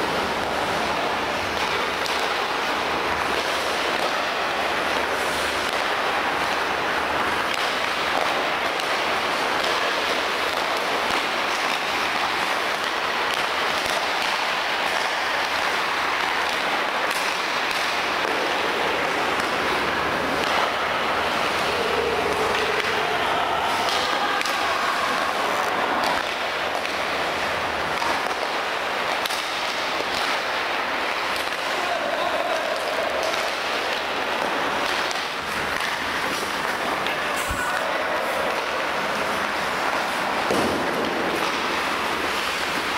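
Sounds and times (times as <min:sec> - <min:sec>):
hockey sticks striking pucks: 0:00.0 - 0:42.9
skate blades scraping ice: 0:00.0 - 0:42.9.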